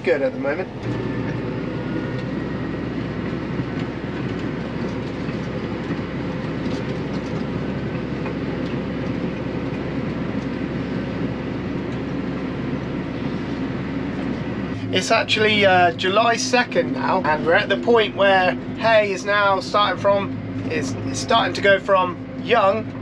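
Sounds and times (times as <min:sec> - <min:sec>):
tractor engine rumbling: 0:00.0 - 0:23.0.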